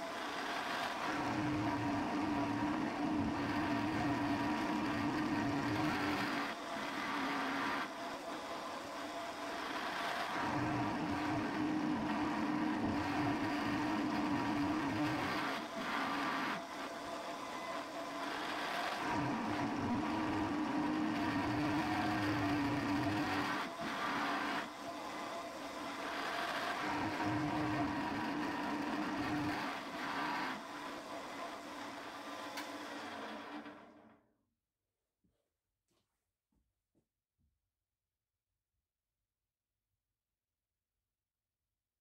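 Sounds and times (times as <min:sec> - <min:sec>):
milling machine spindle hum: 0:00.0 - 0:33.9.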